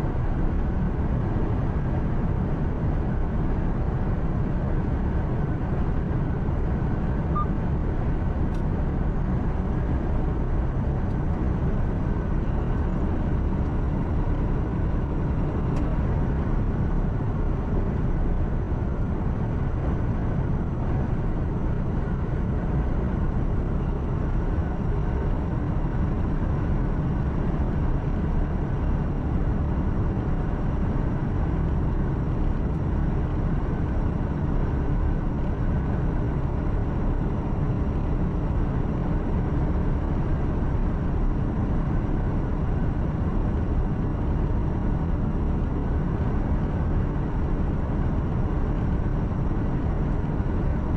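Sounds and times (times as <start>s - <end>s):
truck engine and tyre rumble: 0.0s - 50.9s.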